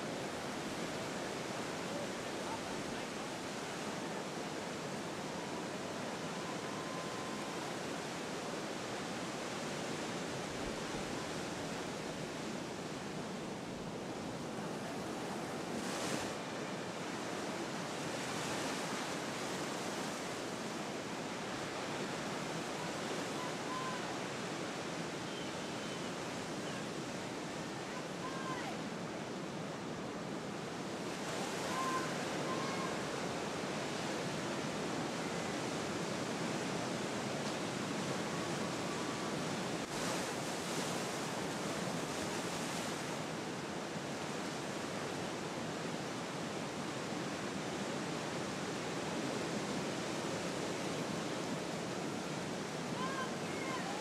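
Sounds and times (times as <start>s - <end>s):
ocean waves and surf: 0.0s - 54.0s
wind: 0.0s - 54.0s.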